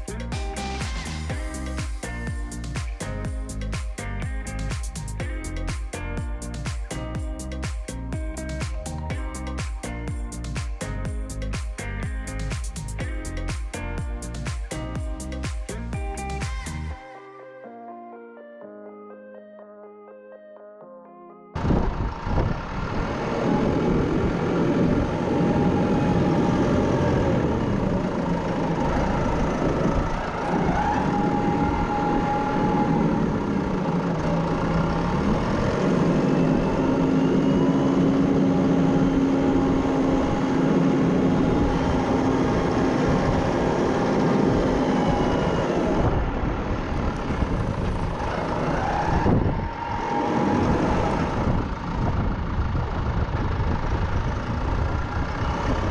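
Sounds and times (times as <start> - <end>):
tractor engine running: 0.0 - 16.9, 21.6 - 55.9
steady higher tone: 0.0 - 48.2.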